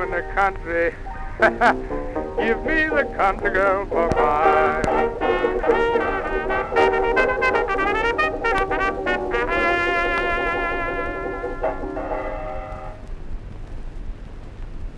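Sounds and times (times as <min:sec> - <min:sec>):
dance band with brass: 0:01.0 - 0:13.0.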